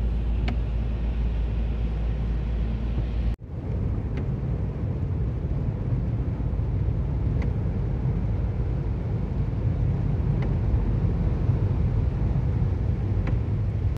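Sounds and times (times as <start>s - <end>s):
car road and engine rumble: 0.0s - 13.9s.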